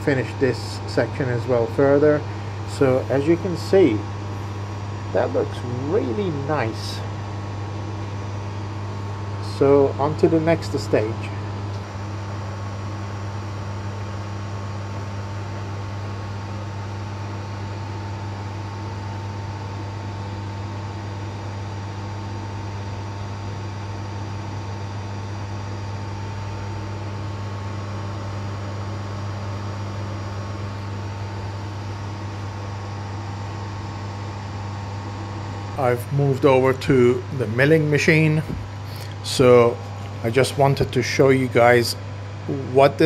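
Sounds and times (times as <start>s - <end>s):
metal lathe running: 0.0s - 43.0s.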